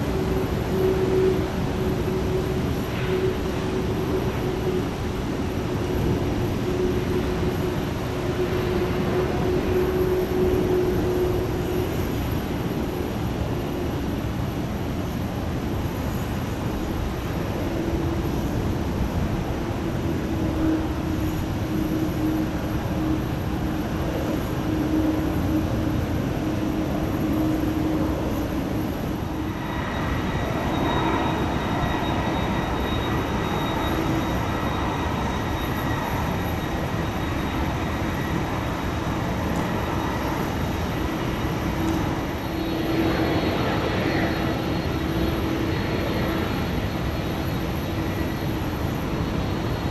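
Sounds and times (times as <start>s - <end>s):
high steady engine whine: 0.0s - 49.9s
jet engines rumbling: 0.0s - 49.9s.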